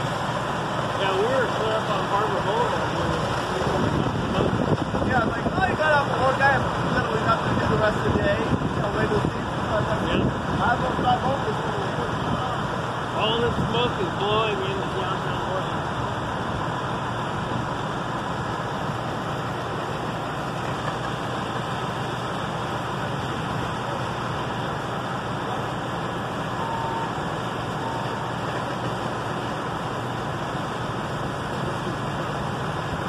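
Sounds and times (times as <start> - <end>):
fire hoses spraying water: 0.0 - 33.0
heavy truck engines running: 0.0 - 33.0.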